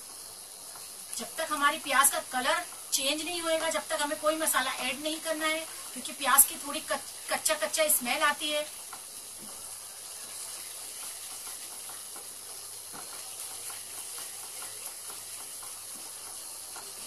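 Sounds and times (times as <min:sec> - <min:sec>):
onion paste sizzling in pan: 0:00.0 - 0:17.0
spatula ticking and scraping: 0:00.1 - 0:17.0.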